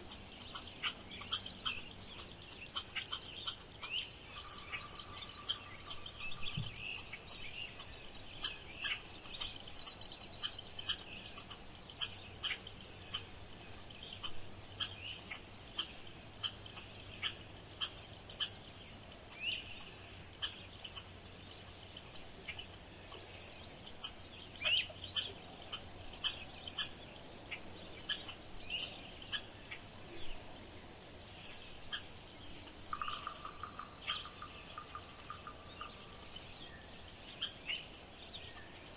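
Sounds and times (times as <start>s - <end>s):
birds chirping: 0.0s - 38.9s
thin steady buzz: 0.0s - 38.9s.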